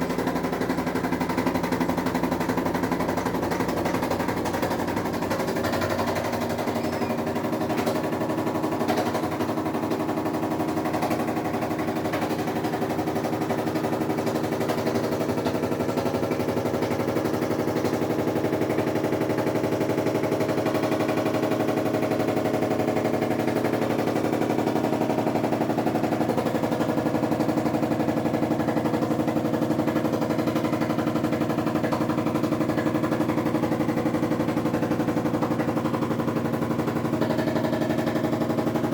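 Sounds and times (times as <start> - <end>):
washing machine hum: 0.0 - 38.9
washing machine rattling buzz: 0.0 - 38.9.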